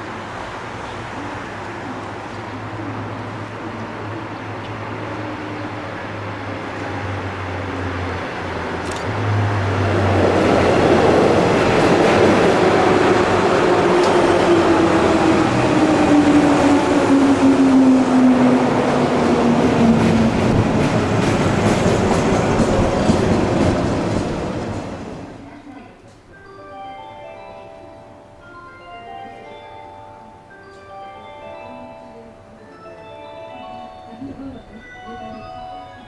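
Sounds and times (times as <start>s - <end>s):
electric train passing: 0.0s - 25.6s, 26.2s - 36.0s.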